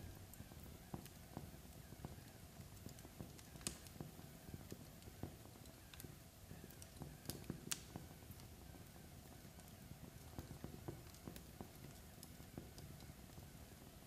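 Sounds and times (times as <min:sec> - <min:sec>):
log fire crackling: 0:00.0 - 0:14.0.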